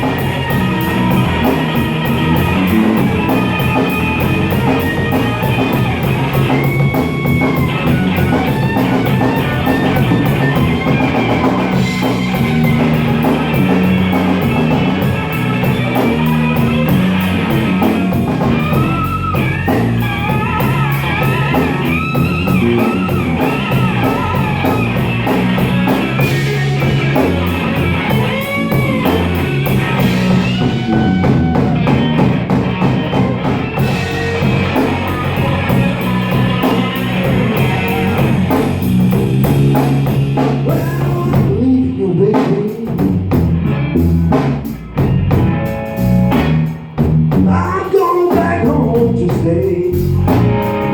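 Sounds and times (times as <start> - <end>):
electric guitar solo: 0.0 - 41.8, 43.6 - 50.9
drums: 0.0 - 50.9.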